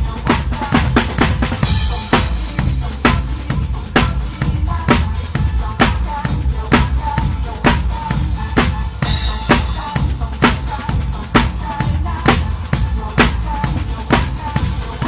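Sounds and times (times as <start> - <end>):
bass drum and snare beat: 0.0 - 15.0
bass line: 0.0 - 15.0
live band music: 0.0 - 15.0.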